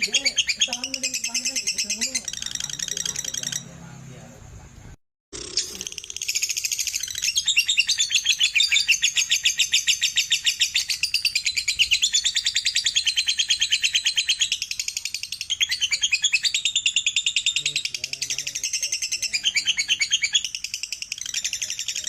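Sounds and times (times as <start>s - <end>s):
lovebird trilling: 0.0s - 3.9s, 5.4s - 22.0s.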